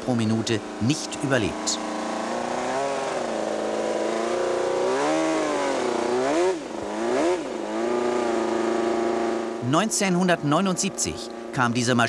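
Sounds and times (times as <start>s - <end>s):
racing engine revving: 0.0s - 12.0s.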